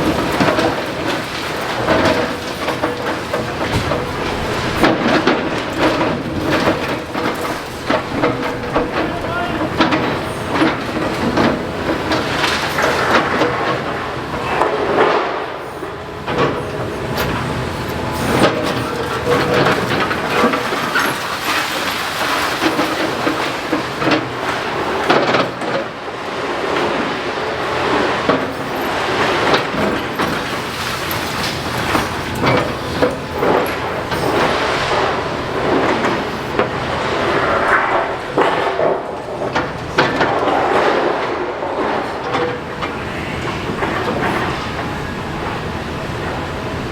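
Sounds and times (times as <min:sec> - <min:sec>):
breaking masonry and falling debris: 0:00.0 - 0:15.6, 0:16.2 - 0:46.9
excavator machinery running: 0:00.0 - 0:46.9.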